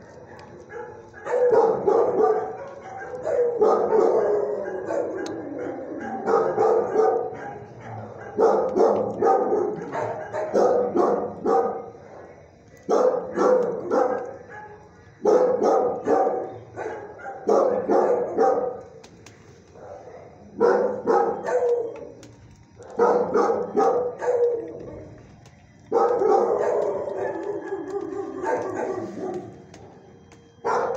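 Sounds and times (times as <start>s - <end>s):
dogs barking: 0.0s - 30.9s.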